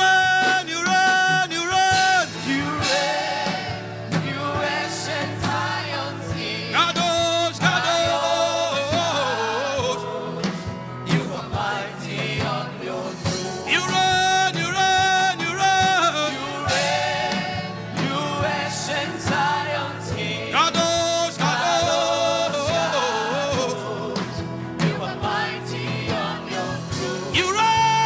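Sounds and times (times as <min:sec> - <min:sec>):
instrumental backing with beat: 0:00.0 - 0:28.0.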